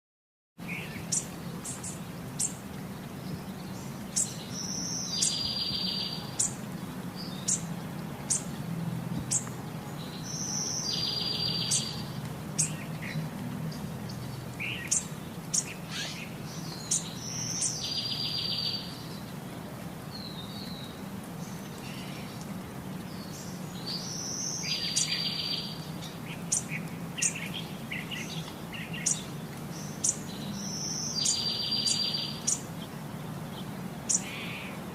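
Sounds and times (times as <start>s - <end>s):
bird song with buzzy trill: 0.6s - 7.7s, 9.3s - 19.3s, 23.1s - 32.9s, 33.5s - 34.8s
songbirds chirping: 0.6s - 34.9s.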